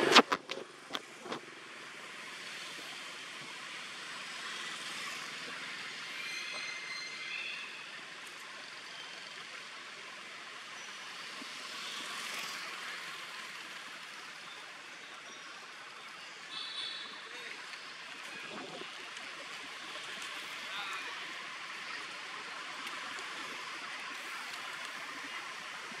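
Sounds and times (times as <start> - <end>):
forest background hiss: 1.2 - 26.0.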